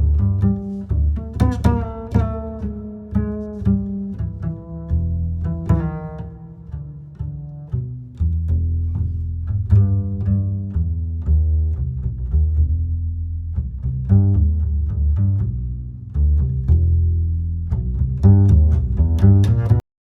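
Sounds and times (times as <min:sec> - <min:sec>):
low strings music: 0:00.0 - 0:19.8.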